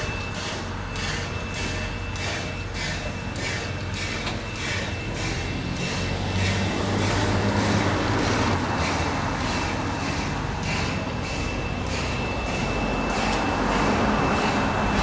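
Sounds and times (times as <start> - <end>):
steam locomotive chuffing: 0.0 - 15.0.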